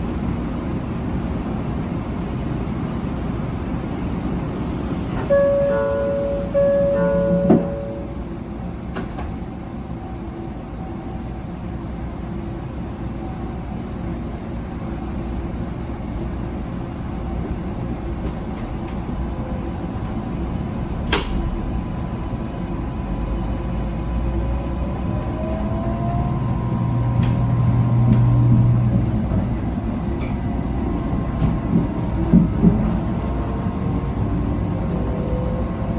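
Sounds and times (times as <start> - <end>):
train rumble: 0.0 - 35.9.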